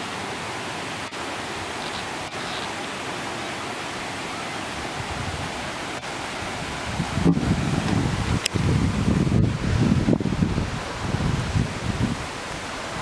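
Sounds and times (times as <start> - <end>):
waterfall rushing hiss: 0.0 - 13.0.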